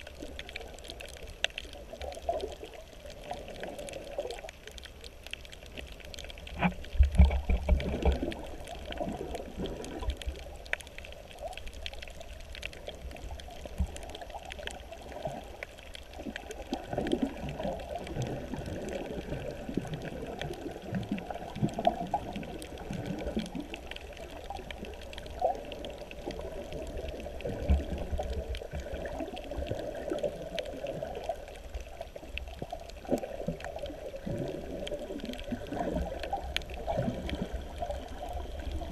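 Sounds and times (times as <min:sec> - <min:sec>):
faint clicks: 0:00.0 - 0:38.9
muffled underwater sloshing: 0:00.0 - 0:38.9.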